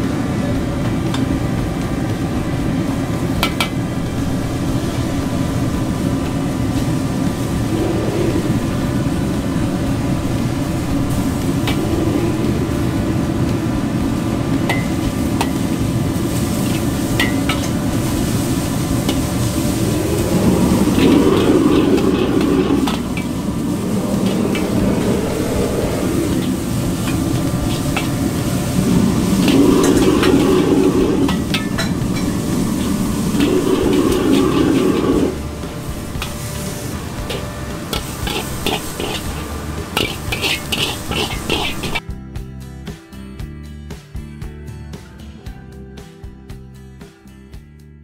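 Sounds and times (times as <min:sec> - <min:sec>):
gas burner rushing: 0:00.0 - 0:42.0
noodles frying in a wok: 0:00.0 - 0:42.0.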